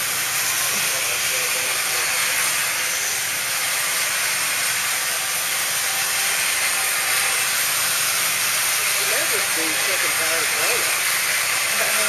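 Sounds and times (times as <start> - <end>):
loud high hiss: 0.0 - 12.0.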